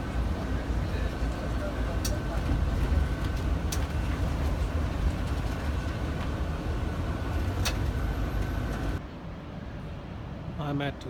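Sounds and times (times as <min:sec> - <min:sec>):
coach engine rumble: 0:00.0 - 0:10.8.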